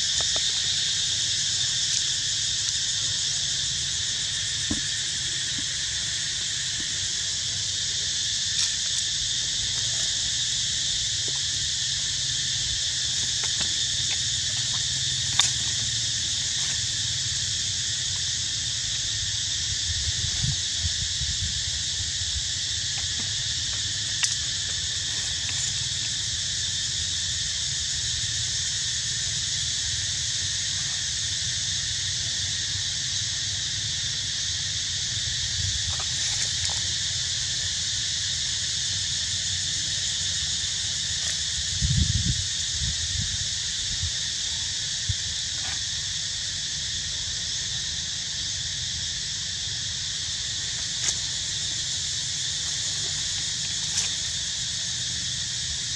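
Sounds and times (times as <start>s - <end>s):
insect chorus drone: 0.0s - 55.9s.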